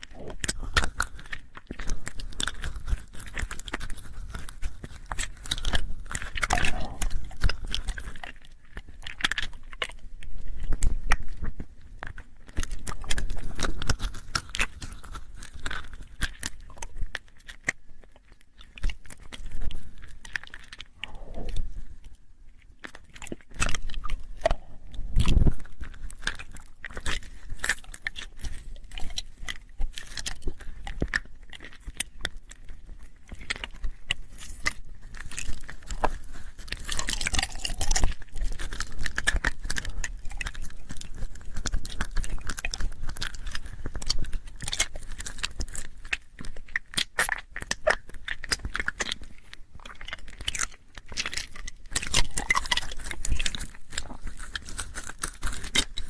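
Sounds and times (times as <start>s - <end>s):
wet lip and tongue clicks: 0.0s - 56.0s.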